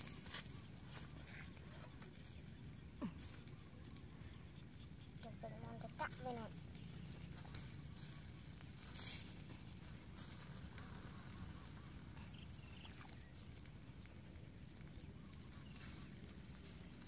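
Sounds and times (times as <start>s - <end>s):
sharp crackle: 0.0s - 17.0s.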